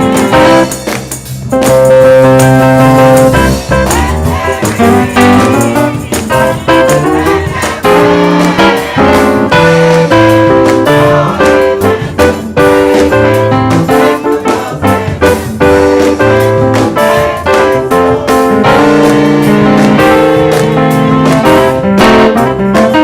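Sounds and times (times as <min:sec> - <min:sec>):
gospel keyboard chords: 0:00.0 - 0:23.0
percussive hits: 0:00.0 - 0:23.0.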